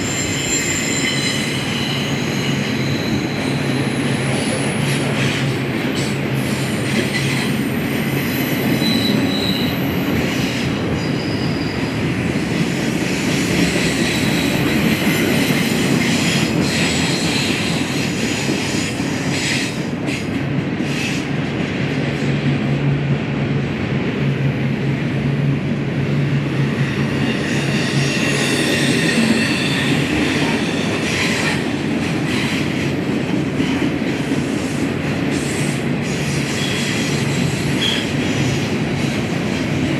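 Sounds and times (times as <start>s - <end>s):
train wheels squealing: 0.0s - 21.2s, 26.6s - 32.8s, 34.5s - 39.2s.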